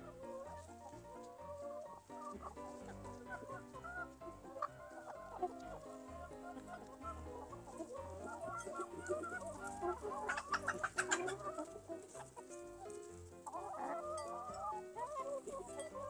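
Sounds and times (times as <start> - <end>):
hens and rooster clucking: 0.0 - 16.0.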